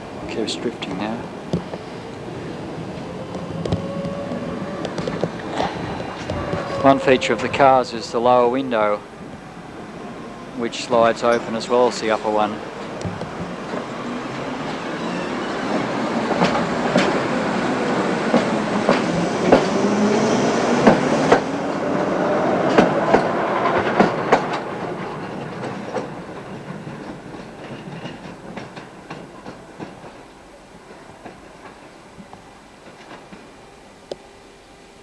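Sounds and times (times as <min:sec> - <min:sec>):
tram wheels clacking over rail joints: 0:00.0 - 0:33.6.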